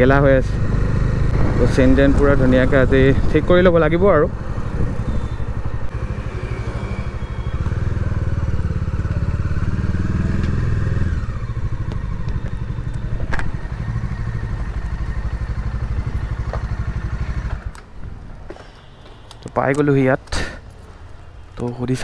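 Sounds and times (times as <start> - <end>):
motorcycle engine running: 0.0 - 17.7.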